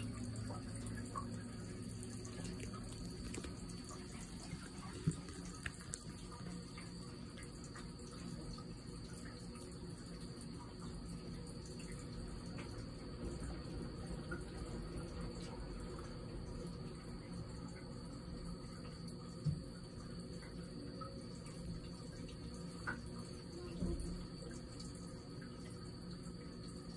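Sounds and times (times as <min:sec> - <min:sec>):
water trickling into basin: 0:00.0 - 0:26.9.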